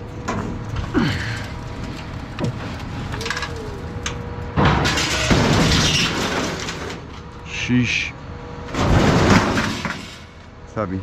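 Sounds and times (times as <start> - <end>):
scrap metal scraping clatter: 0.2 - 7.4, 8.7 - 10.5.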